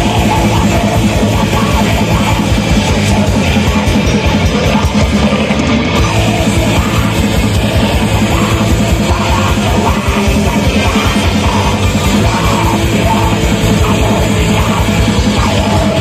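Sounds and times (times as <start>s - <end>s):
distorted guitars: 0.0s - 16.0s
fast dense drumming: 0.0s - 16.0s.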